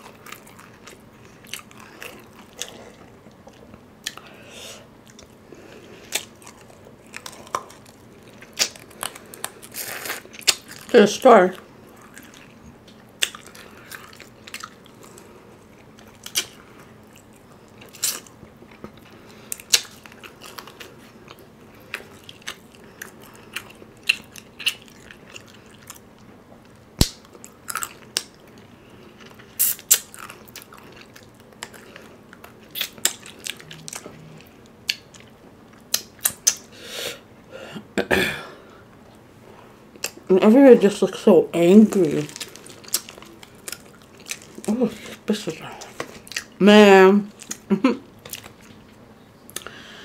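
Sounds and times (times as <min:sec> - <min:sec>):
crunchy chewing: 0:00.0 - 0:36.6, 0:42.0 - 0:46.6.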